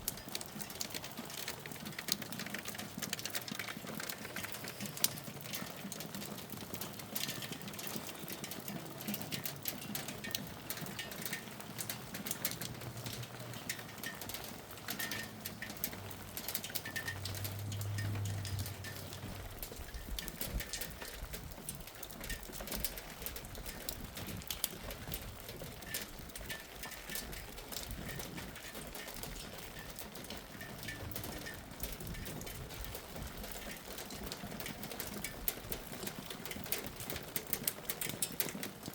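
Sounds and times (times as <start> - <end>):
hailstones pattering: 0.0 - 38.9.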